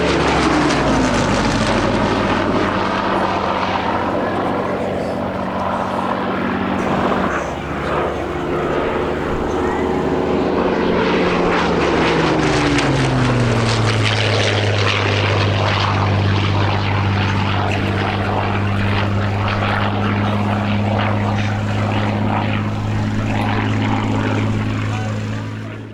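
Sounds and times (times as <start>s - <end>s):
propeller aircraft flying past: 0.0s - 25.9s.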